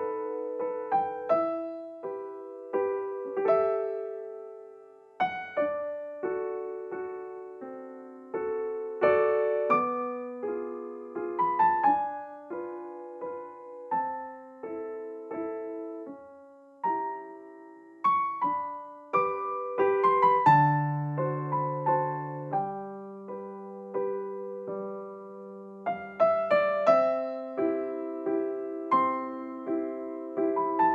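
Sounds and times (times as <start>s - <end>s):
soft slow piano music: 0.0s - 30.9s.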